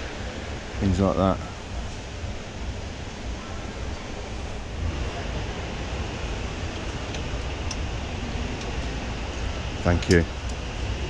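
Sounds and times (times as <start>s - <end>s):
low microphone rumble: 0.0s - 11.0s.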